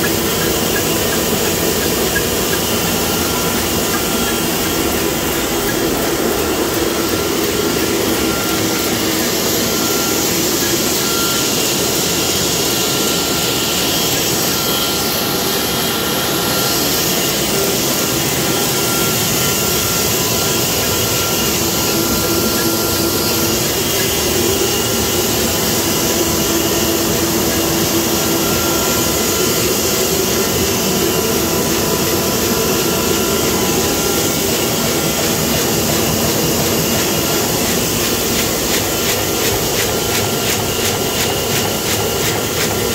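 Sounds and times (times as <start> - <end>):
printing press whirring: 0.0 - 42.9.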